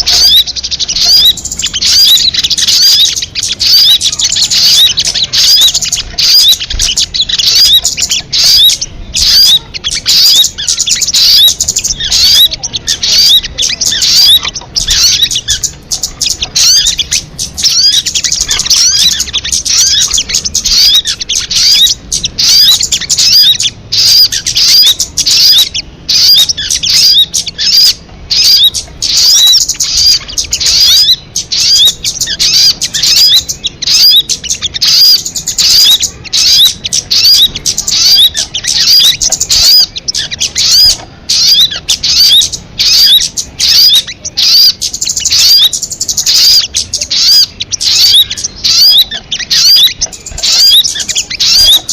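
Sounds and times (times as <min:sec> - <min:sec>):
recorded bird song chirping: 0:00.0 - 0:51.9.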